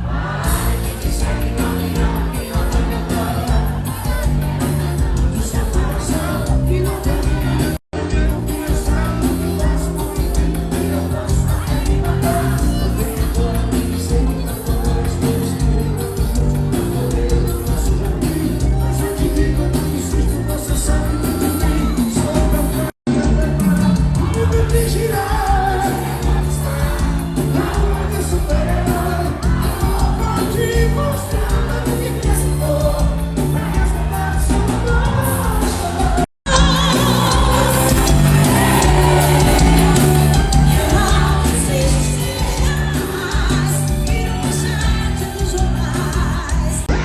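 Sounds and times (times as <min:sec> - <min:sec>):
amplified forro music with singer: 0:00.0 - 0:47.0.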